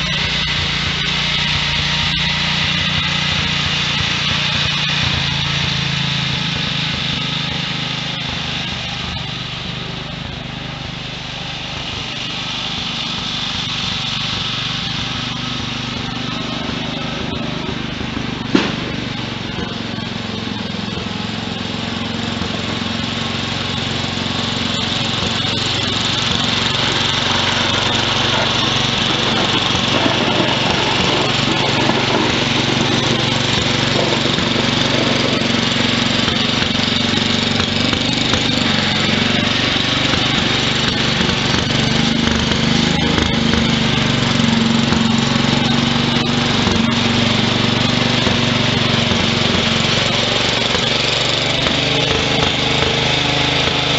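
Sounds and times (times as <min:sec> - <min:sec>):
garden tractor engine running: 0:00.0 - 0:53.9.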